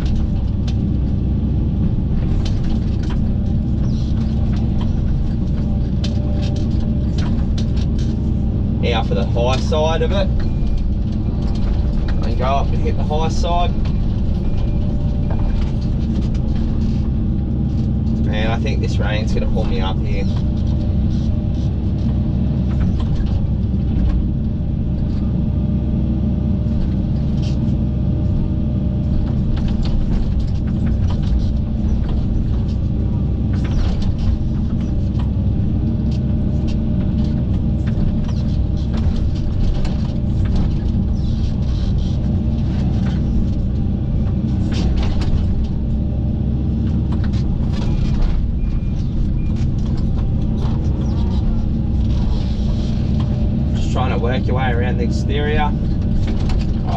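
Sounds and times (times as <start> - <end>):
excavator engine and hydraulics: 0.0 - 56.9.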